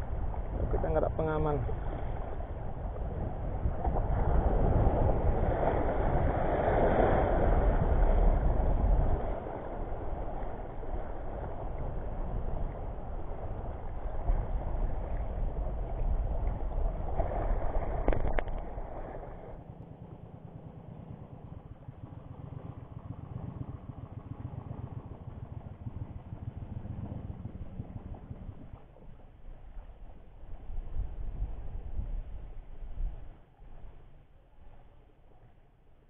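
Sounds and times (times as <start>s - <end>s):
wind buffeting microphone: 0.0s - 34.8s
shallow sea water washing: 0.0s - 36.0s.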